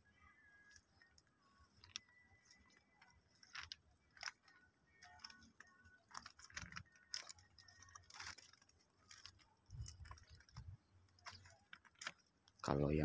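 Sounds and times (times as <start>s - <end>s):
small clicks: 0.6s - 12.7s.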